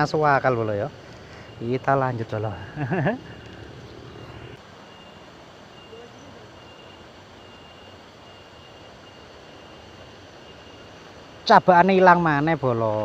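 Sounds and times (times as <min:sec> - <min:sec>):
faint thin whine: 0:00.4 - 0:13.0.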